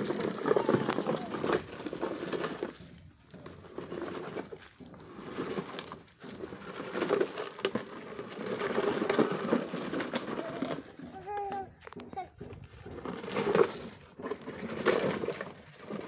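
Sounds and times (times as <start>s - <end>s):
plastic wheels crunching on gravel: 0.0s - 16.0s.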